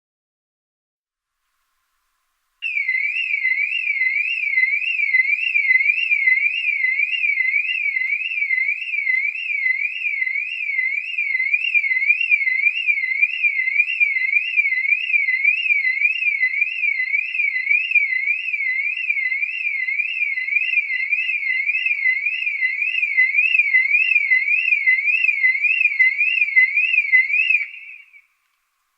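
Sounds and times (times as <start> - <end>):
distant car alarm siren: 2.6 - 28.3.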